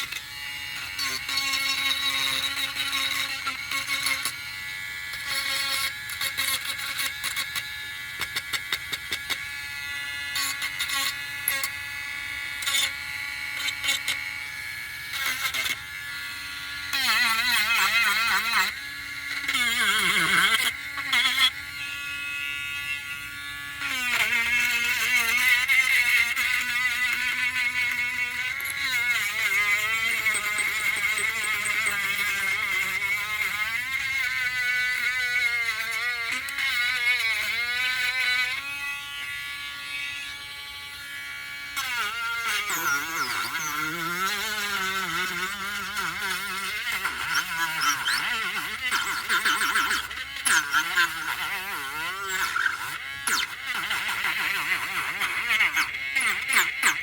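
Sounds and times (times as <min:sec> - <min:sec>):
electric sanding tool running: 0:00.0 - 0:57.0.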